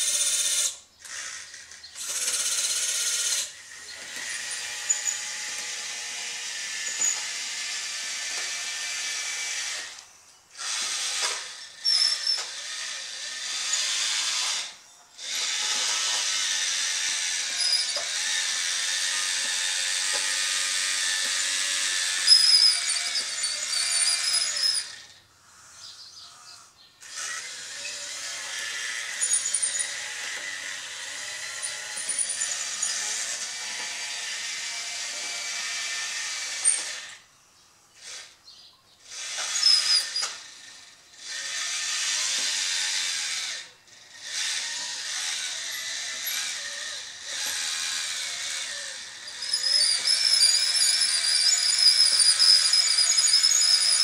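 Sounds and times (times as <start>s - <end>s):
electric motors whining: 0.0s - 38.4s, 39.0s - 54.0s.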